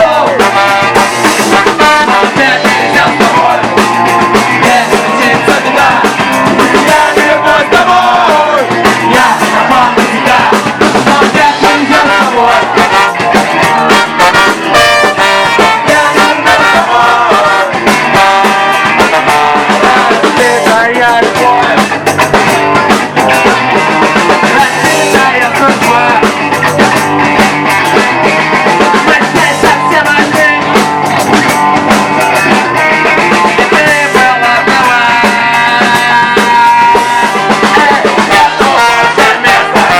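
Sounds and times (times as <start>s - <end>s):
person singing: 0.0s - 27.0s, 28.5s - 31.6s, 32.2s - 39.9s.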